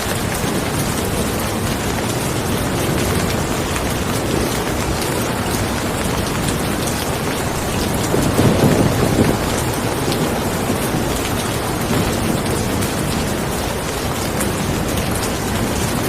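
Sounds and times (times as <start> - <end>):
steady rain falling: 0.0 - 16.0
low rumble of thunder: 0.2 - 16.0.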